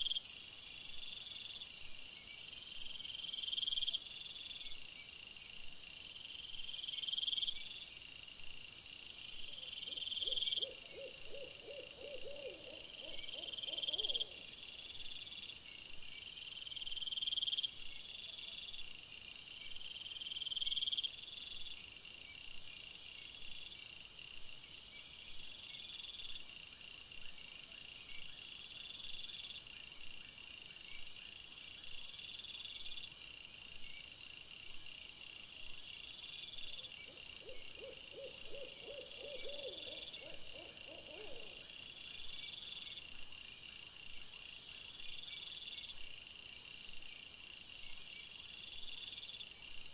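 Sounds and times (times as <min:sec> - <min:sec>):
lower pulsed insect call: 0:00.0 - 0:49.9.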